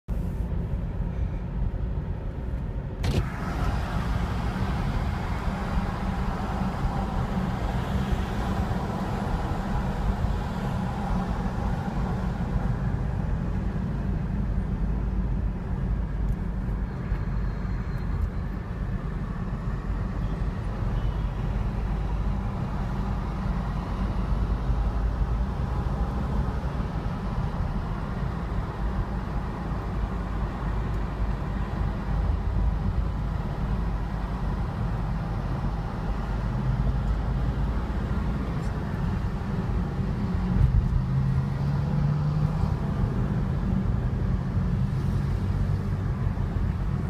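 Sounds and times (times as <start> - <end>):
vehicle engine and road rumble: 0.1 - 47.0.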